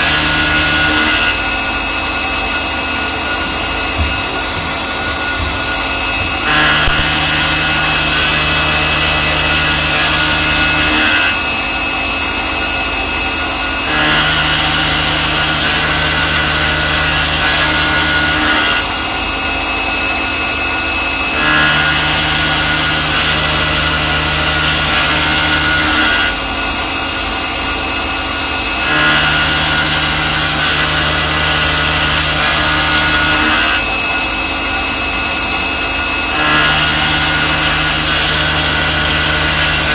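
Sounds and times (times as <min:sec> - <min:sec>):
machine milling: 0:00.0 - 0:39.9.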